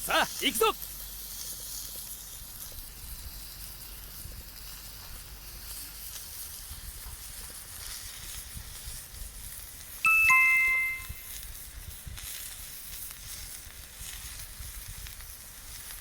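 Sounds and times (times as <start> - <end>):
fire crackling: 0.0 - 10.0, 11.6 - 16.0
meat sizzling in a skillet: 0.2 - 10.0, 11.5 - 16.0.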